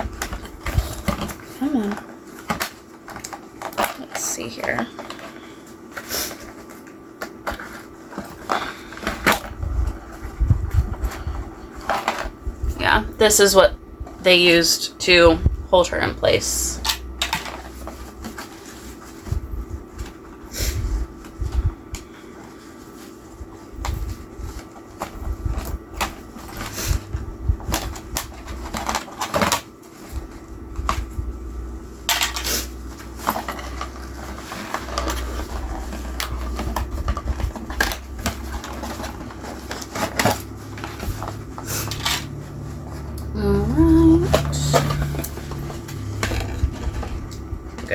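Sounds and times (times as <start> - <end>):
plastic and cardboard packaging rustling: 0.0 - 14.6, 16.2 - 47.9.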